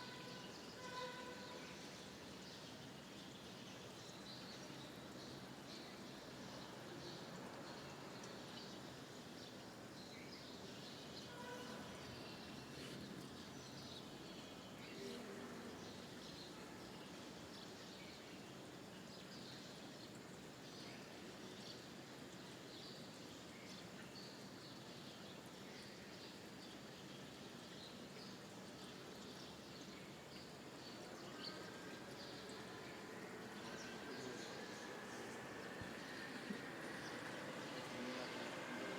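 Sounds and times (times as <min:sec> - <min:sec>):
faint background noise: 0:00.0 - 0:38.9.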